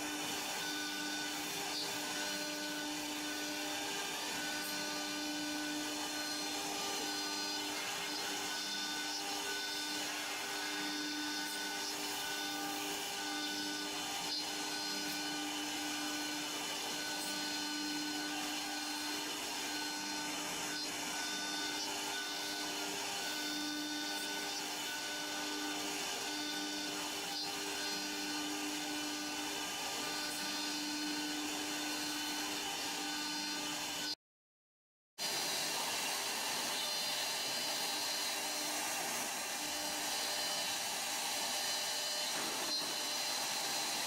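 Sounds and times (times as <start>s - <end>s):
router spindle high whine: 0.0s - 34.2s, 35.2s - 44.0s.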